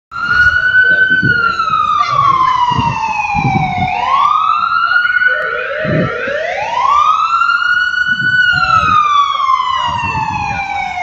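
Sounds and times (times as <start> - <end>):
ambulance siren wailing: 0.1 - 11.0.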